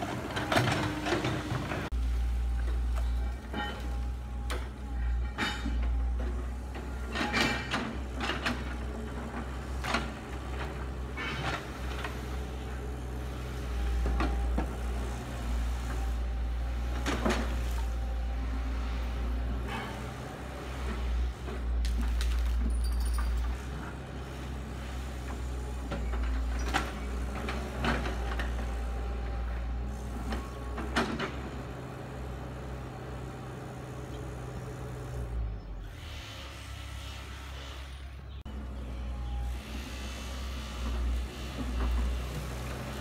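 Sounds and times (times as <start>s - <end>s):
excavator diesel engine rumbling: 0.0s - 43.0s.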